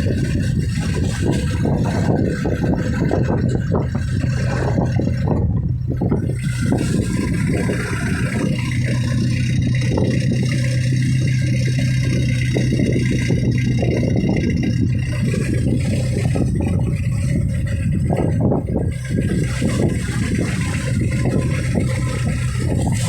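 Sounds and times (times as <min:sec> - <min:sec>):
boat engine running: 0:00.0 - 0:23.0
water wash: 0:00.0 - 0:23.0
wind: 0:00.0 - 0:23.0.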